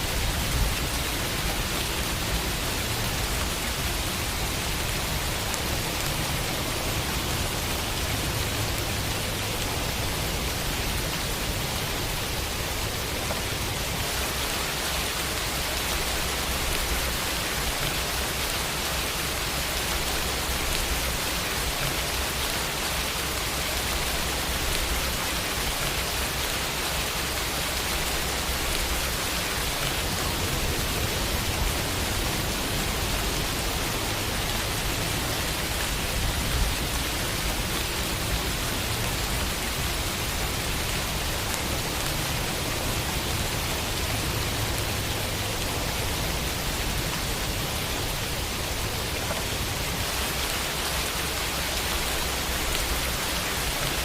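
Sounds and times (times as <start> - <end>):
rain pattering on a window: 0.0 - 54.0.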